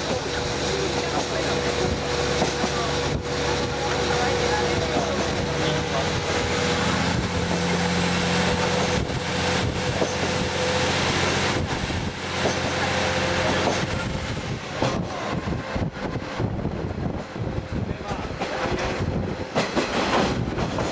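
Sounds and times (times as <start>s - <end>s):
train engine hum: 0.0s - 20.9s
train wheels on rails: 0.0s - 20.9s
wind: 0.0s - 20.9s.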